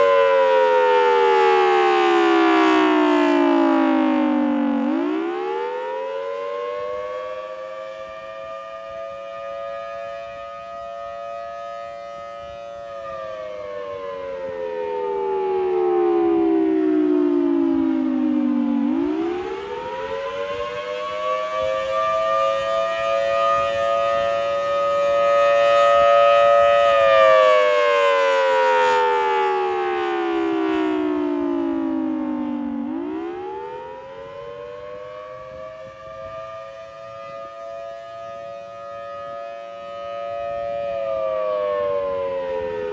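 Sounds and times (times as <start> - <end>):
outdoor warning siren wailing: 0.0 - 42.9.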